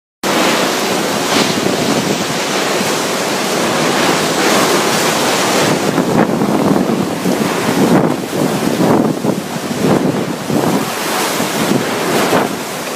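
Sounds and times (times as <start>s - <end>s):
driving rain: 0.2s - 12.9s
strong wind blowing: 0.2s - 12.9s
wind buffeting microphone: 0.3s - 12.9s.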